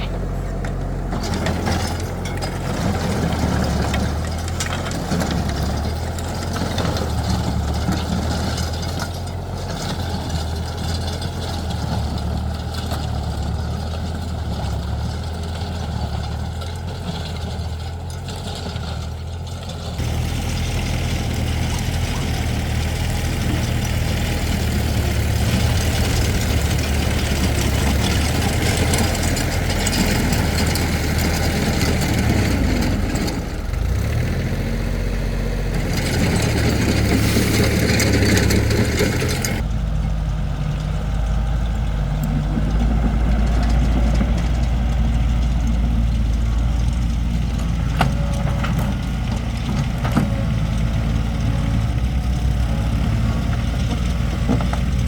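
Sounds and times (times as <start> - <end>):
excavator engine humming: 0.0 - 55.0.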